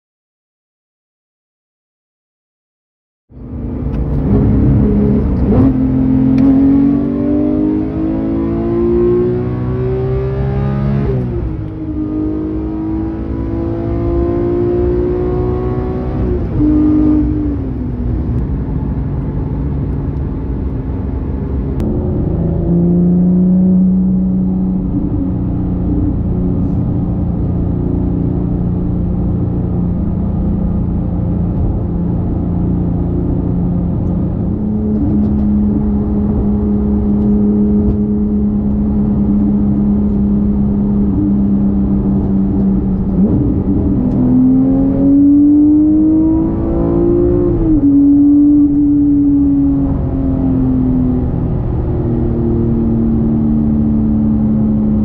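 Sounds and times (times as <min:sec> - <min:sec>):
car engine accelerating through gears: 0:03.3 - 0:55.0.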